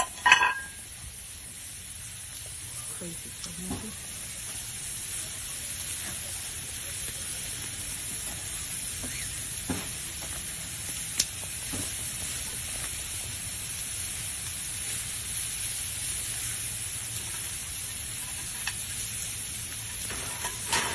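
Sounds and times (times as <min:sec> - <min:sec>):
meat sizzling on grill: 0:00.0 - 0:20.9.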